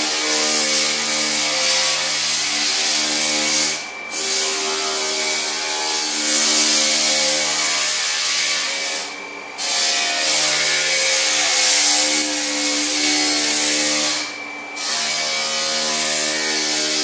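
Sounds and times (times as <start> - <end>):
floor sander motor hum: 0.0 - 17.0.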